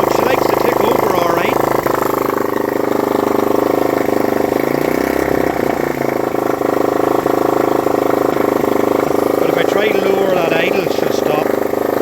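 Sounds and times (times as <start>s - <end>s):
motorcycle engine fast idle: 0.0s - 12.0s.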